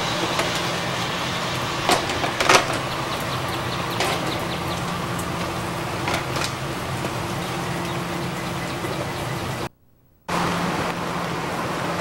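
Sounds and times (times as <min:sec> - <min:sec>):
loud raindrops striking close: 0:00.0 - 0:09.7, 0:10.3 - 0:12.0
steady rain falling: 0:00.0 - 0:09.7, 0:10.3 - 0:12.0.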